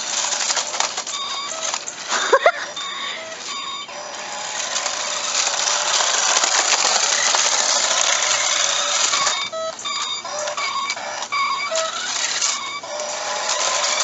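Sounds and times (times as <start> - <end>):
toy car motor whirring: 0.0 - 14.0
electronic siren tones: 1.1 - 14.0.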